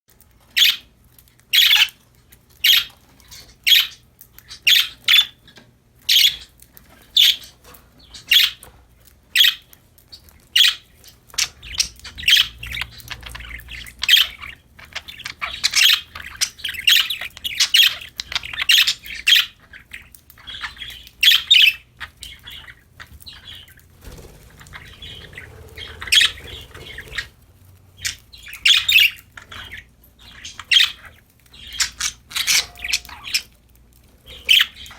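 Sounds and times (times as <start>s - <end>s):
budgerigars chirping and squawking: 0.4s - 0.9s, 1.5s - 34.9s.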